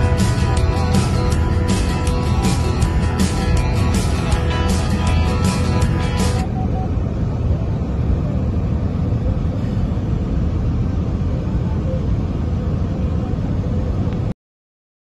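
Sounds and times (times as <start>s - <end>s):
car road noise from inside: 0.0s - 14.1s.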